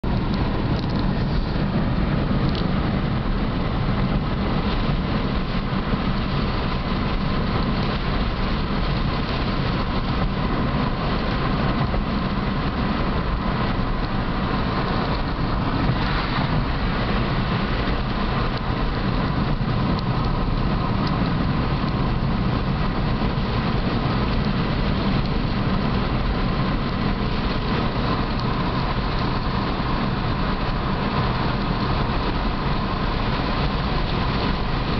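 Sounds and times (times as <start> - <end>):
car road noise from inside: 0.0 - 34.9.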